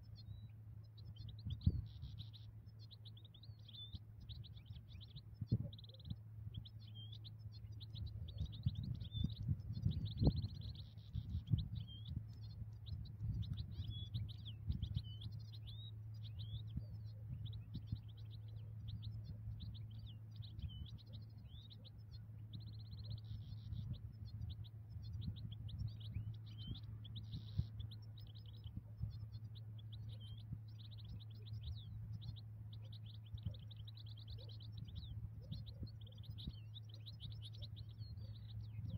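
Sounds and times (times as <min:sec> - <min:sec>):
bird twittering with buzzy trills: 0:00.0 - 0:38.9
steady low hum: 0:00.0 - 0:38.9.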